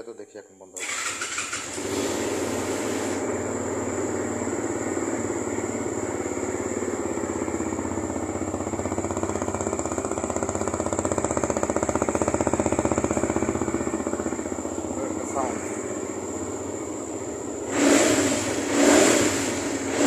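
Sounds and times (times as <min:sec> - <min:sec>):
motorcycle engine idling: 0:00.6 - 0:18.8.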